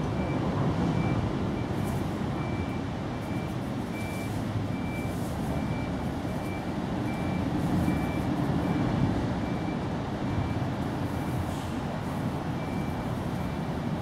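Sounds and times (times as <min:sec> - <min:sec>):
reversing alarm beeping: 0:00.0 - 0:11.4, 0:12.1 - 0:14.0.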